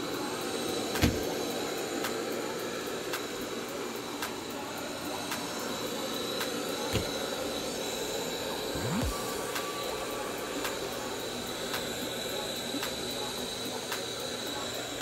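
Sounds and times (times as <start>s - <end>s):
robot vacuum whirring: 2.4s - 15.0s.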